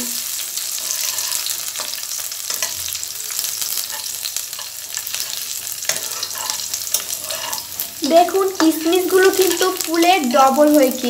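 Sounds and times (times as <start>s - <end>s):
spices sizzling in oil: 0.0s - 11.0s
metal spatula scraping pan: 0.7s - 9.9s.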